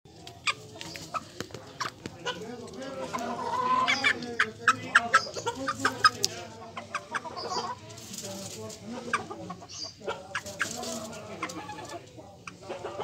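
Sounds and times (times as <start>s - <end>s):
chickens clucking: 0.1s - 13.0s.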